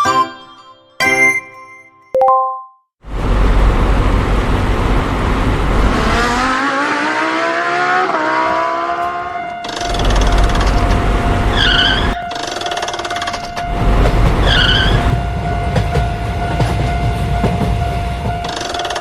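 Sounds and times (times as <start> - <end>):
engine rumbling: 3.0 - 19.0.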